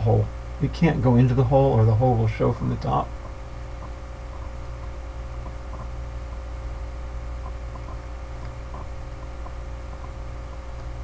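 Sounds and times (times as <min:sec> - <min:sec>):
faint high whine: 0:00.0 - 0:11.0
low electrical hum: 0:00.0 - 0:11.0.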